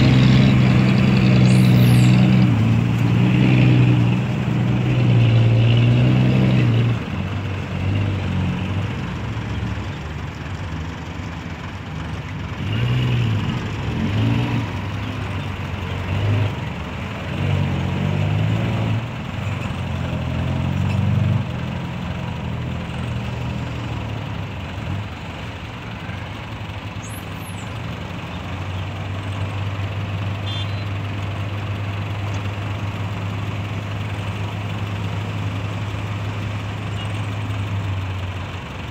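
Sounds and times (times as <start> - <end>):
dump truck diesel engine: 0.0 - 38.9.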